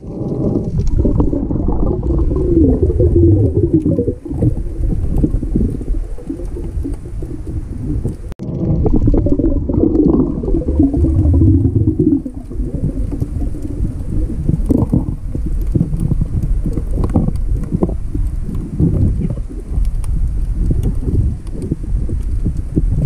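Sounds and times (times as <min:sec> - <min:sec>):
low rumble of underwater water: 0:00.0 - 0:23.0.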